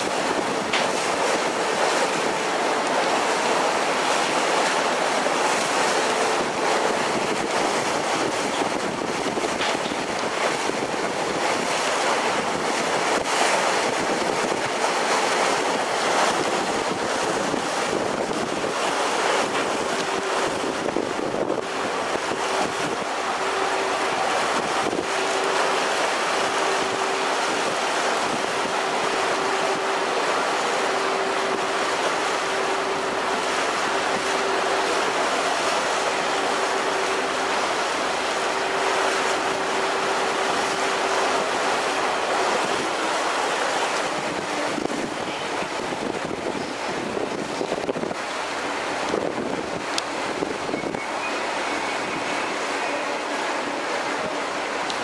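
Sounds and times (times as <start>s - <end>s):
engine hum: 0.0s - 46.4s
water rushing along hull: 0.0s - 55.0s
wind buffeting microphone: 5.5s - 52.7s.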